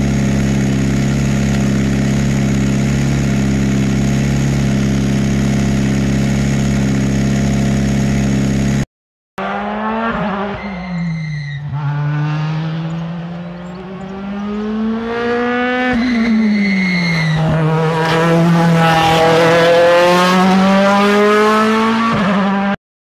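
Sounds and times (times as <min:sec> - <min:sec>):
rally car engine accelerating: 0:00.0 - 0:08.8, 0:09.4 - 0:22.8.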